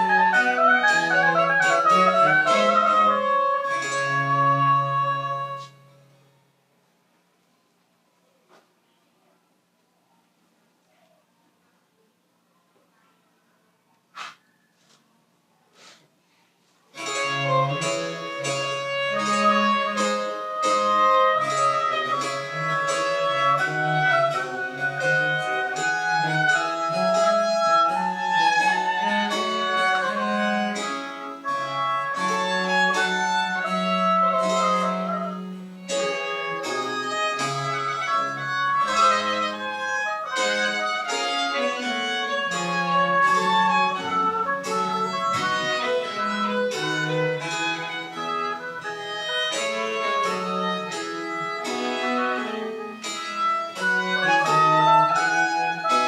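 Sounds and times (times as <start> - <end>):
bowed bass line: 0.0 - 6.0, 17.0 - 56.0
violin melody: 0.0 - 6.4, 17.0 - 56.0.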